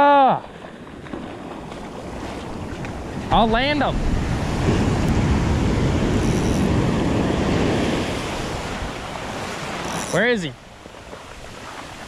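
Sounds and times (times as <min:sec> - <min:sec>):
whitewater rushing up beach: 0:00.0 - 0:12.0
ocean surf breaking: 0:00.5 - 0:12.0.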